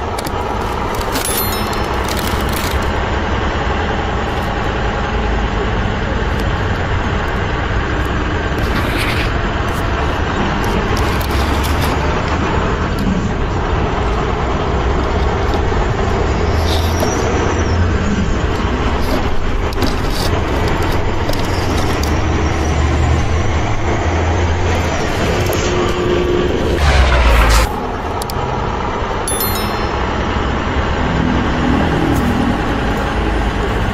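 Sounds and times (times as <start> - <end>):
truck engine rumbling: 0.0 - 33.9.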